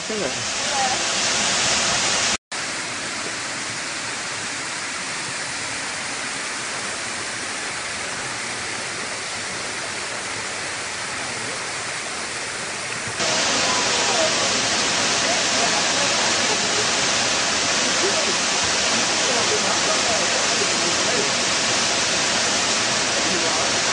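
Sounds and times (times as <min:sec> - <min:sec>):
stream water over rocks: 0:00.0 - 0:23.9.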